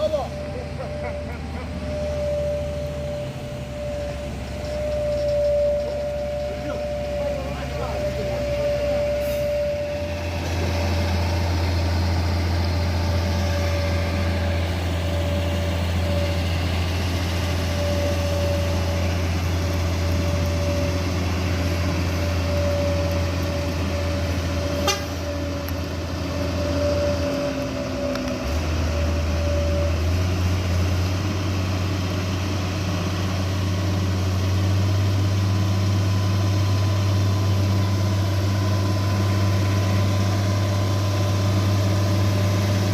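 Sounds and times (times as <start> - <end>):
heavy vehicle engine drone: 0.0 - 42.9.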